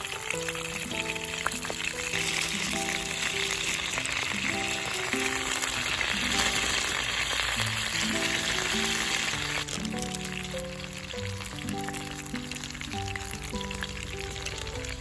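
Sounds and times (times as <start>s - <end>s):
background music with simple melody: 0.0s - 15.0s
food sizzling in oil: 0.0s - 15.0s.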